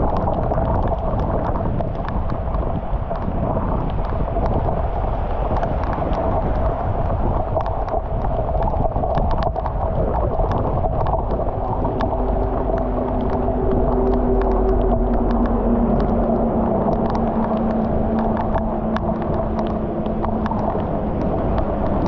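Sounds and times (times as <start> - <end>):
heavy rain pouring: 0.0 - 22.0
low steady hum: 0.0 - 22.0
raindrops ticking: 0.0 - 22.0
wading through floodwater: 0.0 - 22.0.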